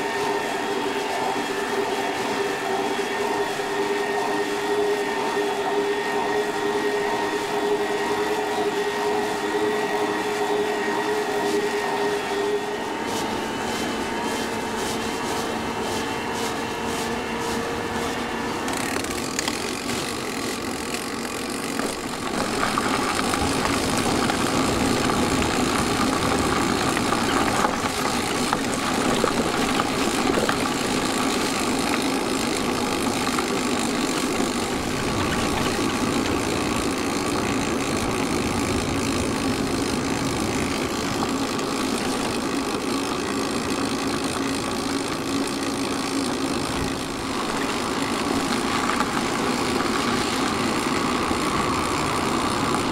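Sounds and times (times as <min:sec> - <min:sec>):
tyres rolling on road: 0:00.0 - 0:52.9.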